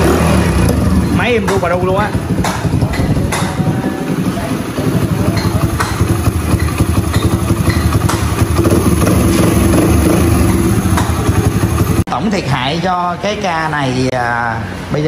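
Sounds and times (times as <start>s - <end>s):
small engine idling: 0.0s - 12.1s.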